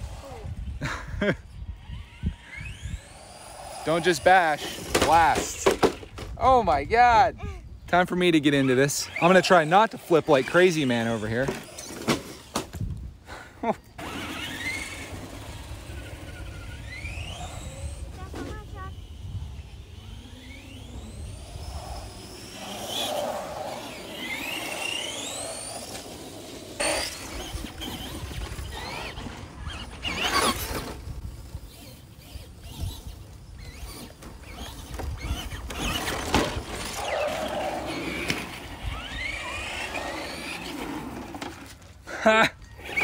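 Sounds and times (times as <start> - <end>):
electric motors whining: 0.0 - 6.7, 8.3 - 13.1, 13.7 - 43.0.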